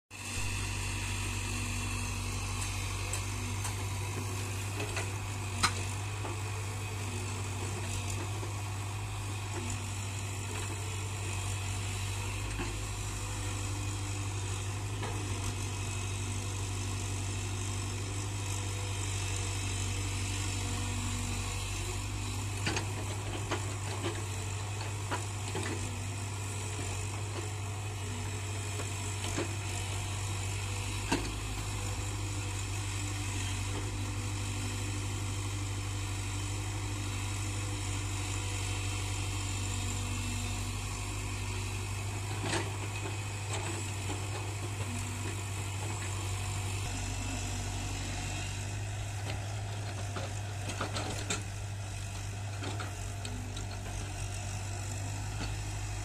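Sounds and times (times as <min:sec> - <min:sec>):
excavator diesel engine droning: 0:00.2 - 0:56.0.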